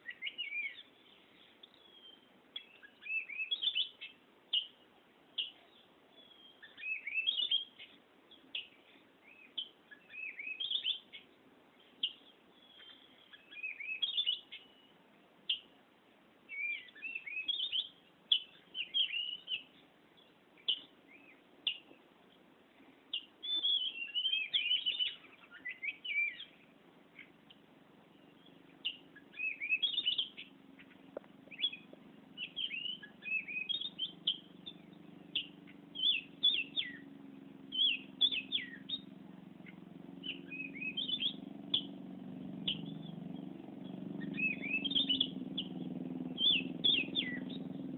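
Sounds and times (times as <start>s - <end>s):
songbird whistling song: 0.0s - 15.8s, 16.5s - 22.0s, 23.1s - 42.0s, 42.6s - 47.9s.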